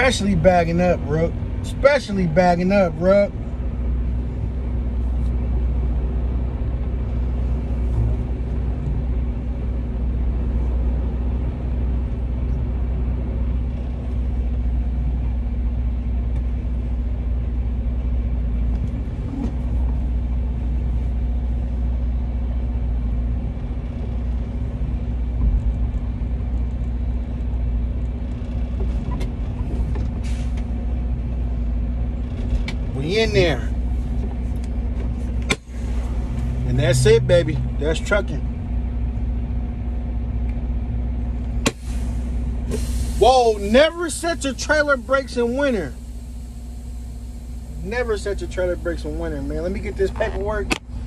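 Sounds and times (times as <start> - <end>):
diesel truck engine droning: 0.0 - 51.0.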